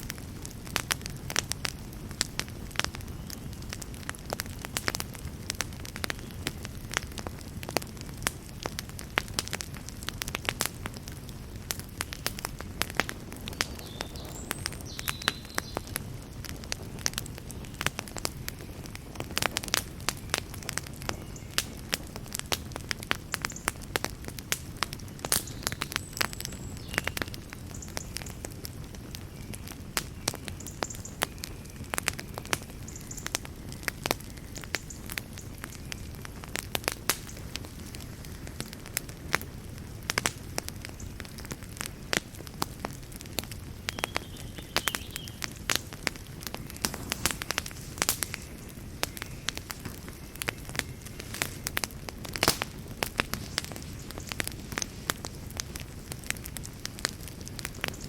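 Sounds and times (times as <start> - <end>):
fire crackling and popping: 0.0 - 58.0
fire flames rumbling: 0.0 - 58.0.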